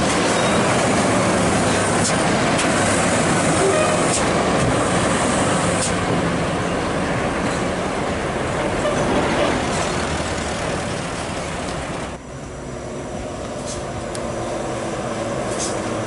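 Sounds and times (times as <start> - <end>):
truck diesel engine running: 0.0 - 16.0
tyres on a dirt road: 0.0 - 16.0.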